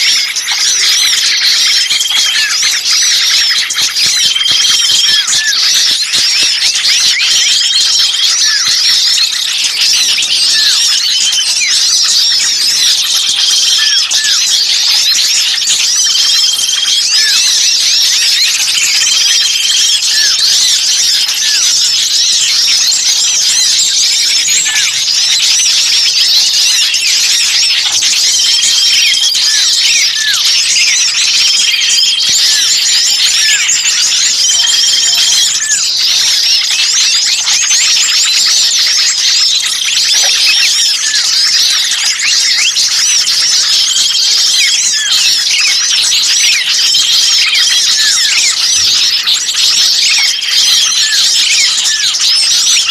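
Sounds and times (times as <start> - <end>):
small birds chirping and twittering: 0.0 - 52.9.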